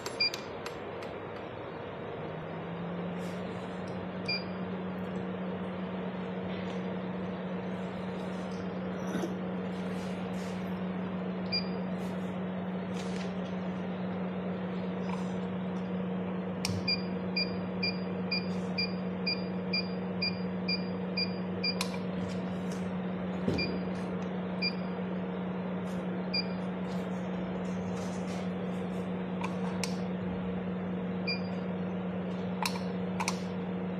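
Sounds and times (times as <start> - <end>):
laser machine humming: 0.0 - 33.9.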